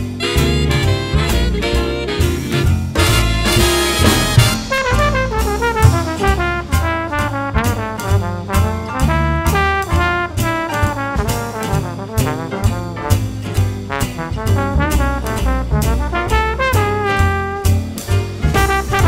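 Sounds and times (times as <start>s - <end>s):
brass section playing jazz: 0.0s - 19.0s
drum kit: 0.0s - 19.0s.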